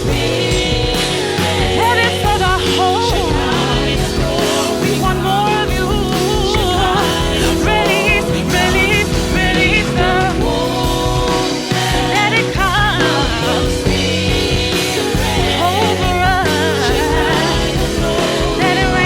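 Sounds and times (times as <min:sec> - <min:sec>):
band holding sustained chords: 0:00.0 - 0:19.0.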